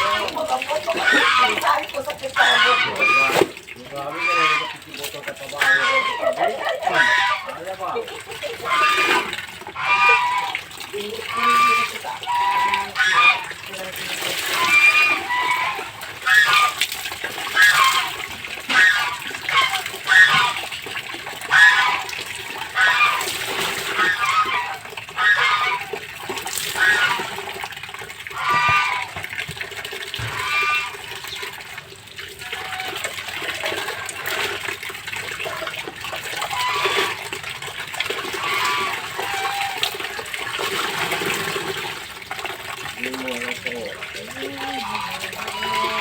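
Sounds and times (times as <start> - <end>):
laundry scrubbed in soapy water: 0.0 - 46.0
water splashing: 0.0 - 46.0.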